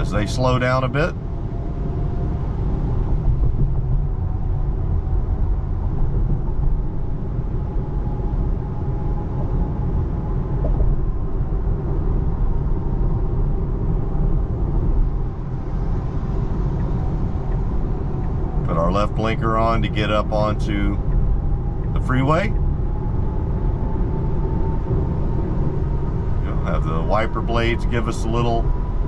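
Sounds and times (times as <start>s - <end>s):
road and tyre rumble in car cabin: 0.0s - 29.0s.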